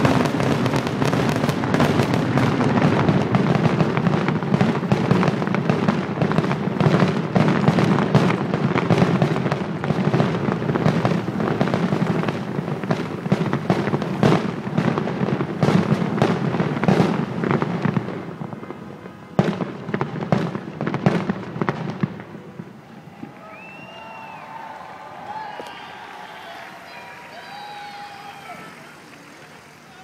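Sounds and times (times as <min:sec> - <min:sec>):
fireworks crackles and bangs: 0:00.0 - 0:30.0.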